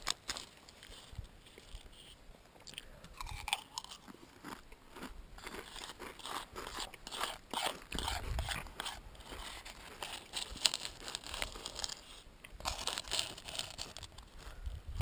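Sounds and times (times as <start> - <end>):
dry cereal crunching between teeth: 0.0 - 1.9, 2.7 - 14.6.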